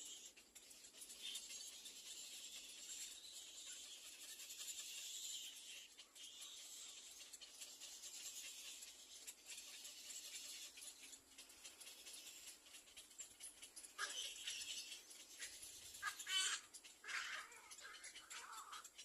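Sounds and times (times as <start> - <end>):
nestlings calling: 0.0 - 19.0.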